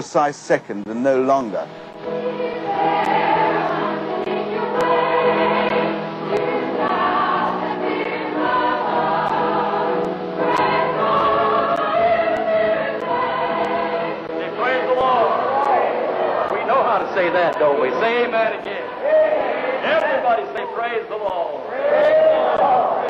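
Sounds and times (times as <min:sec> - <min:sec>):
choir singing: 0:00.9 - 0:23.0.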